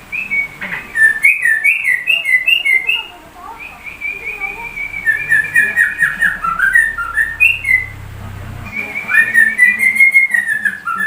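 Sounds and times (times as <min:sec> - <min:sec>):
bird singing whistled notes: 0:00.1 - 0:08.0, 0:08.6 - 0:11.0.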